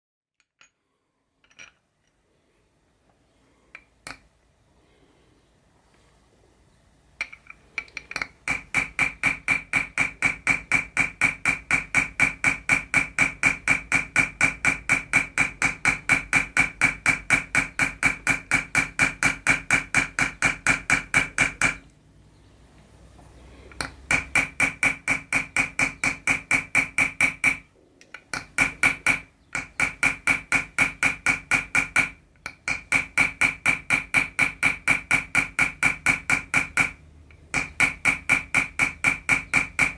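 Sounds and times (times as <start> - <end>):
hammer tapping metal tool: 0.4 - 2.2, 3.7 - 4.3, 7.2 - 21.9, 23.7 - 39.9.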